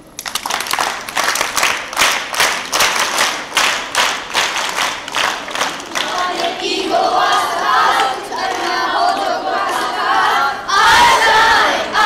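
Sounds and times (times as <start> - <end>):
hands clapping in rhythm: 0.1 - 10.4.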